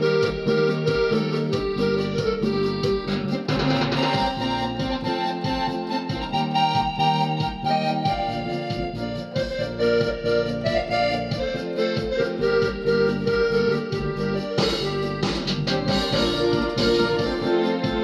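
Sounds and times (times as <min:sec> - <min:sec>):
accordion melody: 0:00.0 - 0:18.0
steady drum beat: 0:00.0 - 0:18.0.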